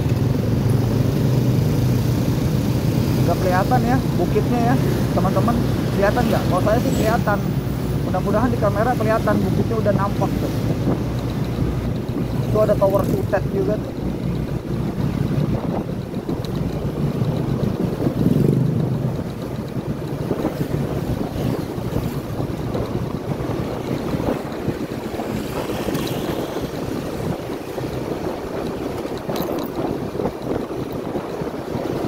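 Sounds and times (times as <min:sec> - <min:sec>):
road noise: 0:00.0 - 0:32.0
scooter engine running: 0:00.0 - 0:32.0
wind buffeting microphone: 0:00.0 - 0:32.0.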